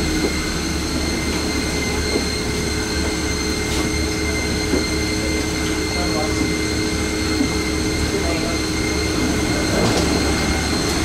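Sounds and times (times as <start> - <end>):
airliner cabin low rumble: 0.0 - 11.0
steady engine whining tones: 0.0 - 11.0.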